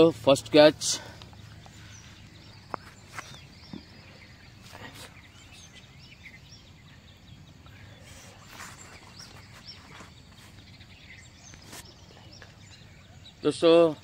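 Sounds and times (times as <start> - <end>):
faint outdoor background noise: 0.0 - 14.0
small bird chirps: 1.2 - 14.0.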